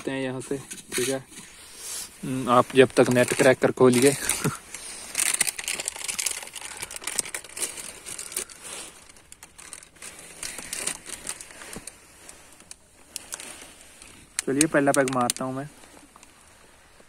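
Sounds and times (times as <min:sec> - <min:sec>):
plastic snack packet crinkling: 0:02.6 - 0:16.3.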